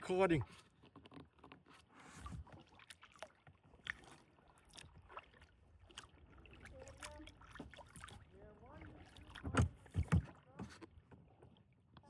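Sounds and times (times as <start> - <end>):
paddle dipping into water: 0.1 - 12.0.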